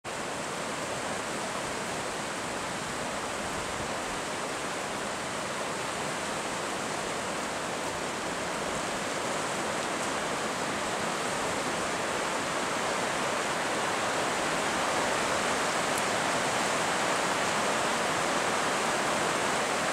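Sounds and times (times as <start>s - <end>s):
waterfall rushing: 0.1s - 19.9s.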